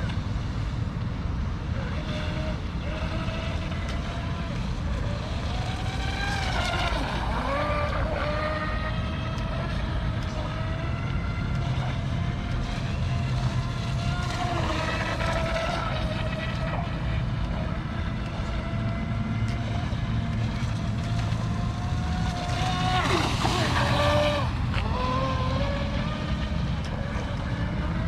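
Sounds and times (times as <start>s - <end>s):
electric boat motor whining: 0.0s - 28.0s
steady low rumble: 0.0s - 28.0s.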